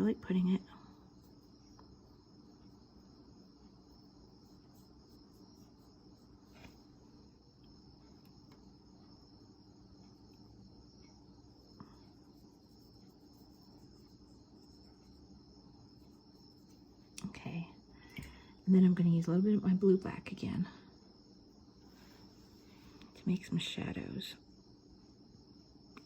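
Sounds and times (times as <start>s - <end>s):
faint high-pitched whine: 0.0s - 26.0s.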